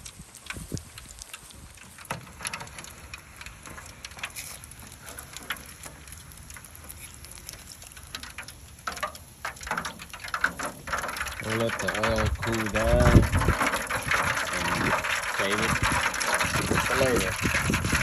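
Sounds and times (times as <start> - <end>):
hot oil sizzling and popping: 0.0 - 18.0.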